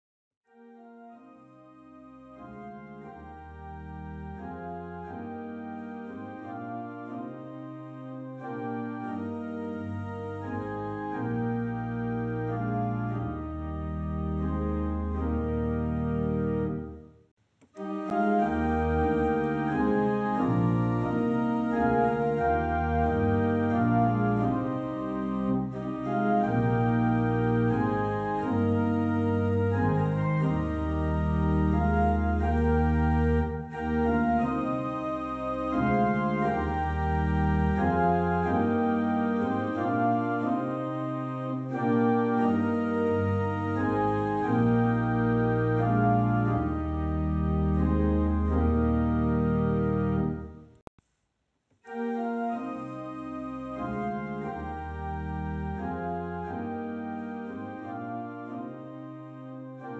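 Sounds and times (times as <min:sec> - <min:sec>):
church organ playing a hymn: 0:00.5 - 0:17.1, 0:17.8 - 0:50.8, 0:51.9 - 0:59.9.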